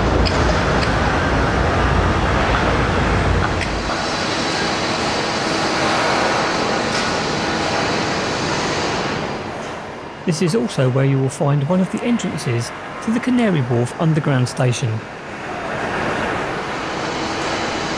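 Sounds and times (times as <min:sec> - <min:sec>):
train rumbling past: 0:00.0 - 0:14.2, 0:15.0 - 0:17.9.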